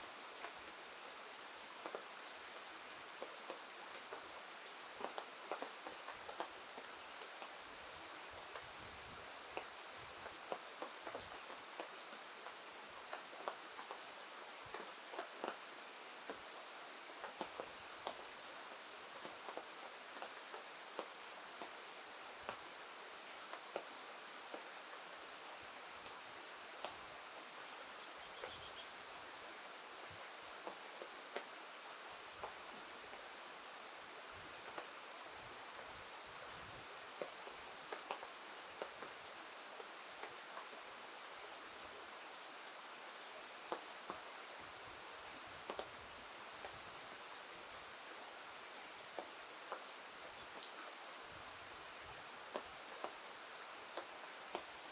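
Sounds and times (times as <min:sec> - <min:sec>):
raindrops ticking close by: 0:00.0 - 0:54.9
steady rain hiss: 0:00.0 - 0:54.9.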